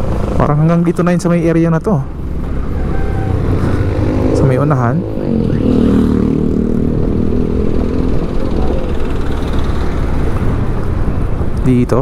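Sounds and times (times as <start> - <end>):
vehicle engine running: 0.0 - 11.4
road noise rumble: 0.0 - 12.0.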